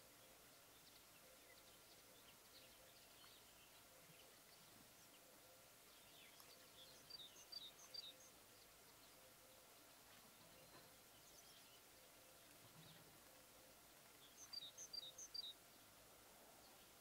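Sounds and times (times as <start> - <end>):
faint background hiss: 0.0 - 17.0
small birds chirping: 0.0 - 17.0.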